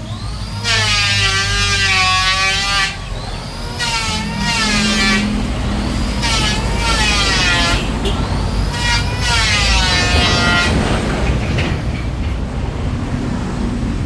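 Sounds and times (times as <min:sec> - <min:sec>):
power tool cutting wood: 0:00.0 - 0:11.6.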